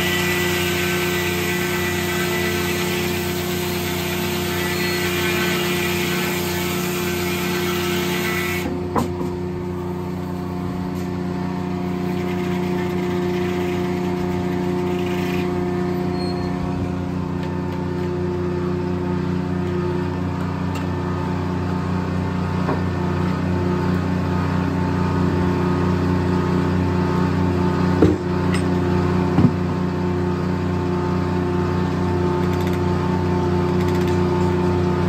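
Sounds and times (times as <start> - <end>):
sawmill engine droning: 0.0 - 35.0.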